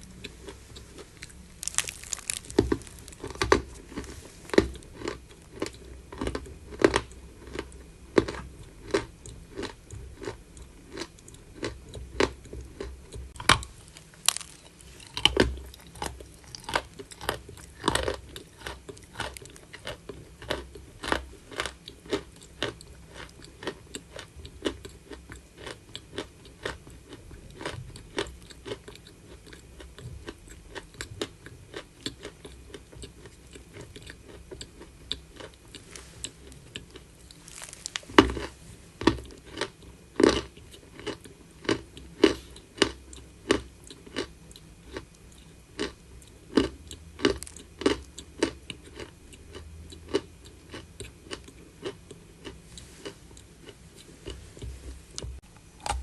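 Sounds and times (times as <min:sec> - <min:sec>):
chalk crunching being chewed: 0:00.2 - 0:55.3.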